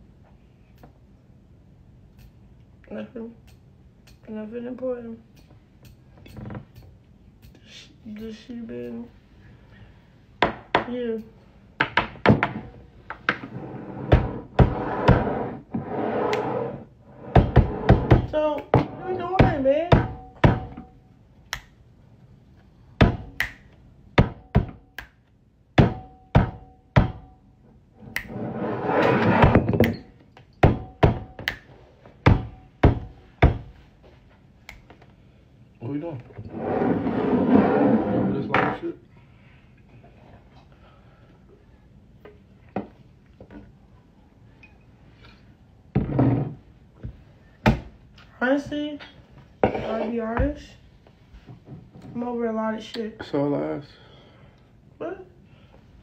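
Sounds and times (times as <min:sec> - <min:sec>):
low room noise: 0:00.0 - 0:56.0.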